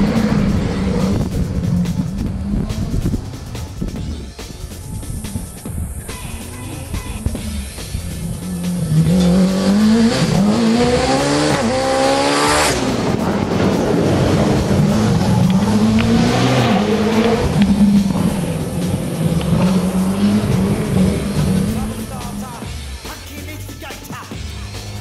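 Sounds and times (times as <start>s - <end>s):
car engine accelerating hard: 0.0s - 6.0s, 7.2s - 22.7s.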